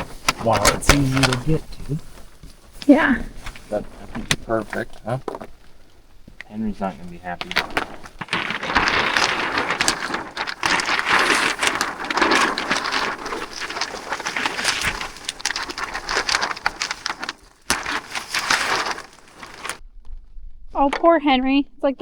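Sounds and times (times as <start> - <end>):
plastic sheeting crinkling: 0.0 - 19.8.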